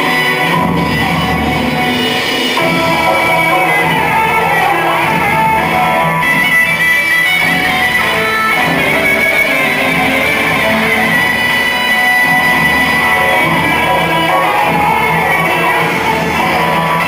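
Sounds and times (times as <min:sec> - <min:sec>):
loud dance music: 0:00.0 - 0:17.0.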